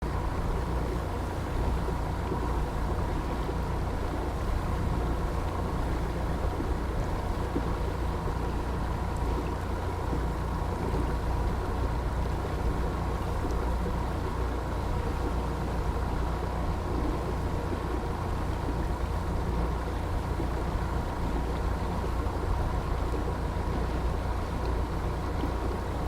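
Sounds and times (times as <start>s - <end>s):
boat engine droning: 0.0s - 26.0s
faint steady whine: 0.0s - 26.0s.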